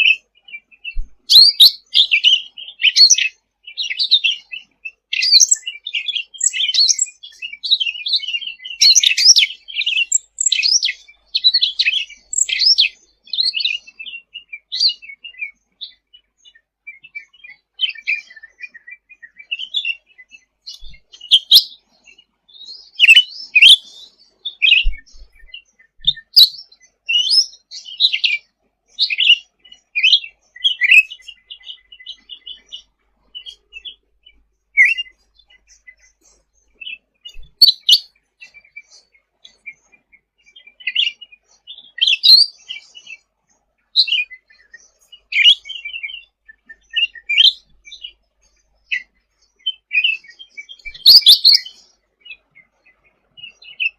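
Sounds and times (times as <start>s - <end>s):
bird chirping and trilling: 0.0s - 39.7s, 40.4s - 43.2s, 44.0s - 48.2s, 48.8s - 53.9s.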